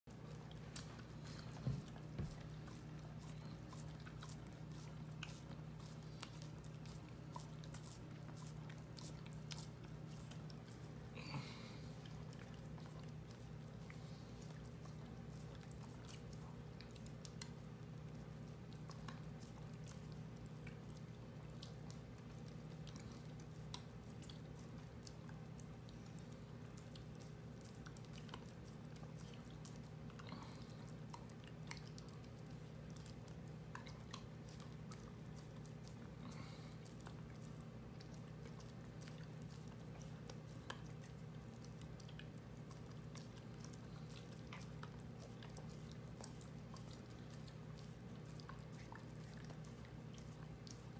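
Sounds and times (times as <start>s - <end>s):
dog licking wet smacks: 0.1s - 50.9s.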